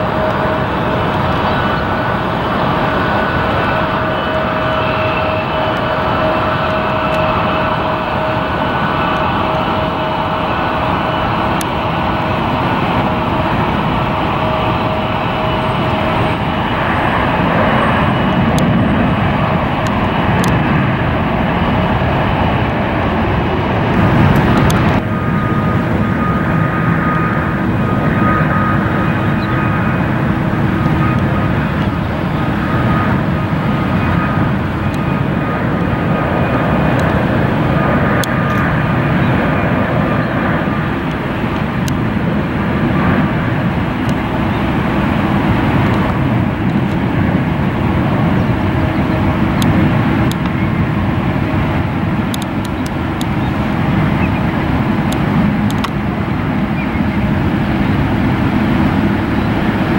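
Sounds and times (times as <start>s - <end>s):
faint engine whine: 0.0s - 59.9s
jet engines roaring: 0.0s - 59.9s.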